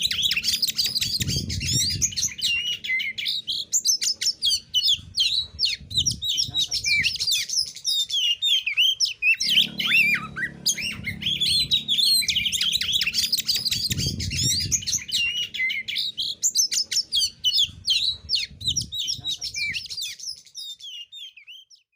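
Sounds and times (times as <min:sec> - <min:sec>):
bird singing whistles and chirps: 0:00.0 - 0:21.9.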